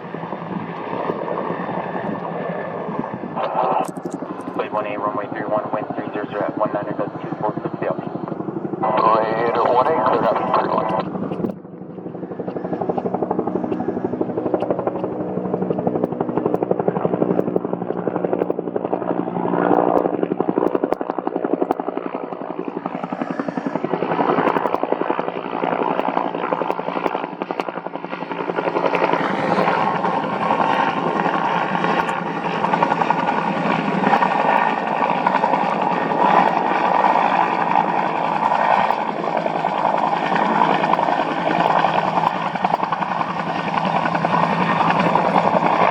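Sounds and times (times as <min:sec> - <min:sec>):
turbine noise: 0:00.0 - 0:19.0, 0:19.7 - 0:45.9
helicopter rotor beating: 0:00.0 - 0:45.9.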